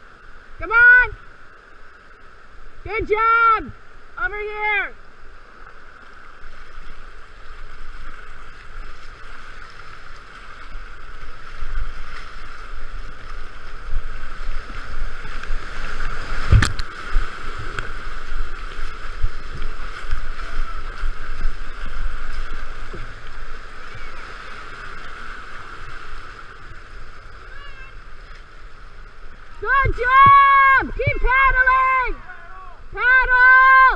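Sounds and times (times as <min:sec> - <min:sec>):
whitewater rushing and splashing: 0:00.0 - 0:33.9
paddle strokes: 0:03.6 - 0:32.9.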